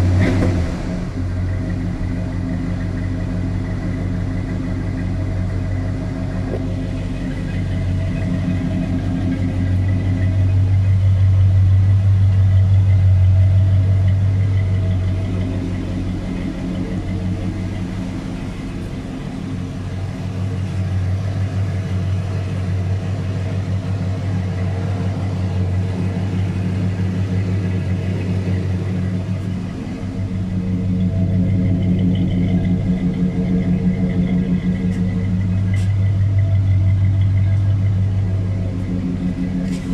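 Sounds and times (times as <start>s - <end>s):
car engine idling exhaust rumble: 0.0s - 39.9s.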